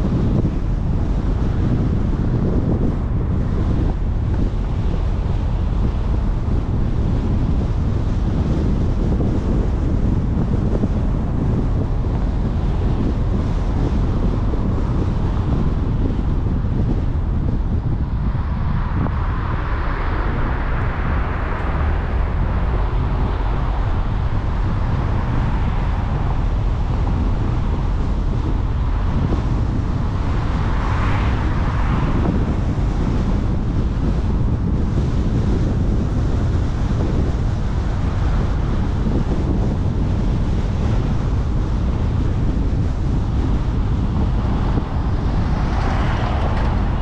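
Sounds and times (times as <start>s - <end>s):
car road rumble: 0.0s - 47.0s
wind noise on microphone: 0.0s - 47.0s.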